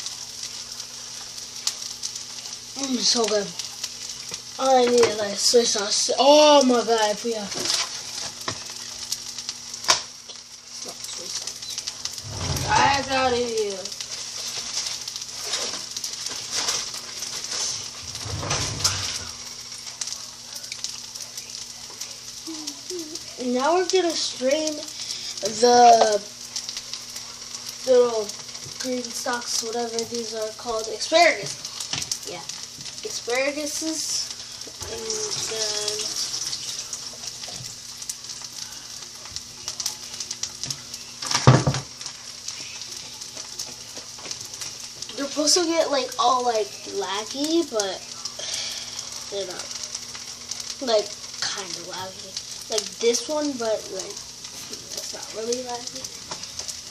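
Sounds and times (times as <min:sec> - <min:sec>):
food sizzling in a frying pan: 0:00.0 - 0:56.9.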